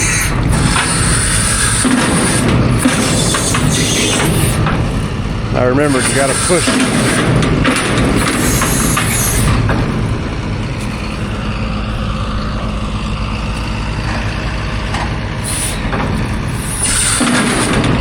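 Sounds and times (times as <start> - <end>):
loud hissing rush: 0.0 - 18.0
tractor engine running: 0.0 - 18.0.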